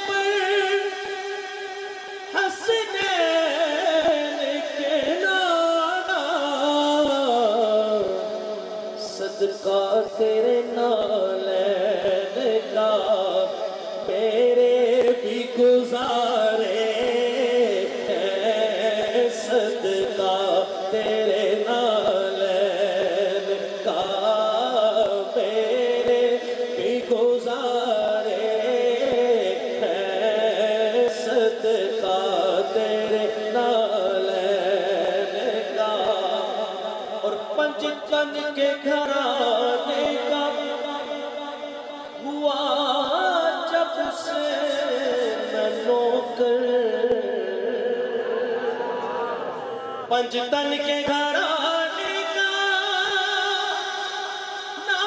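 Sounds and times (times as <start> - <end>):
man singing into a microphone: 0.0 - 55.0.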